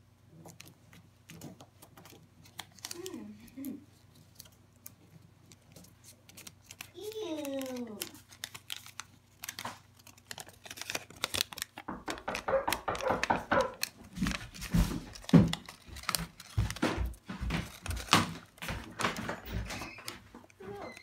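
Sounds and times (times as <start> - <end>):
paper crinkling and rustling: 0.4 - 21.0.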